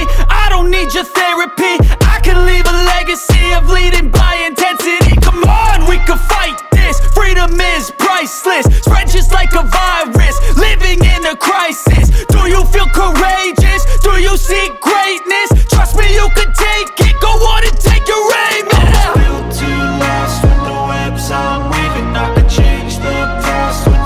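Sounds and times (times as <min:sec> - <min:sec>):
rap music with deep bass: 0:00.0 - 0:24.0.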